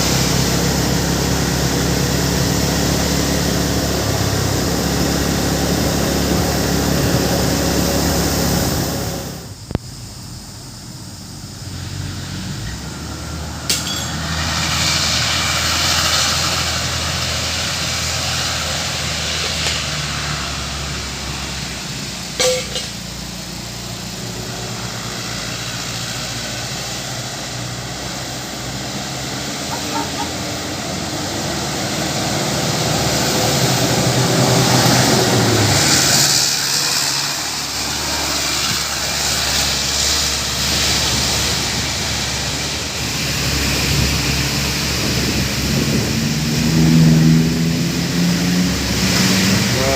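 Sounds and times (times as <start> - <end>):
trucks passing: 0.0 - 49.9.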